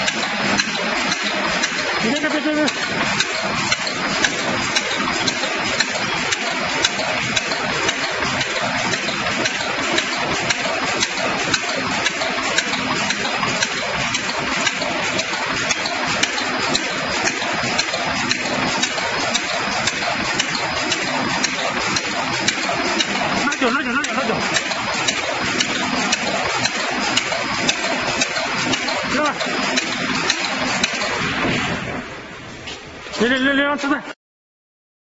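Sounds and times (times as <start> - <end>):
wood shaving machine clattering: 0.0 - 31.2.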